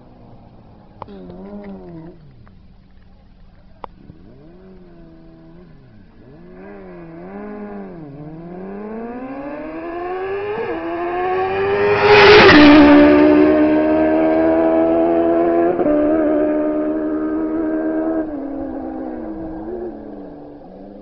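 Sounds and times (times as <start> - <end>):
motorcycle engines accelerating: 0.0 - 21.0.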